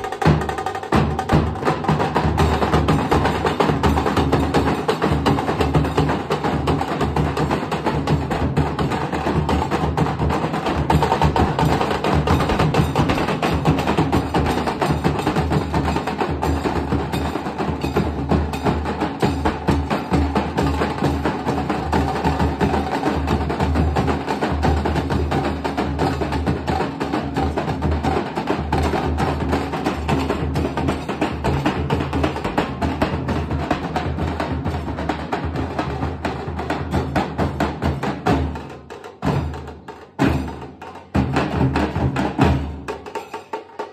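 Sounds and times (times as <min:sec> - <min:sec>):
drums beaten with sticks: 0:00.0 - 0:43.9.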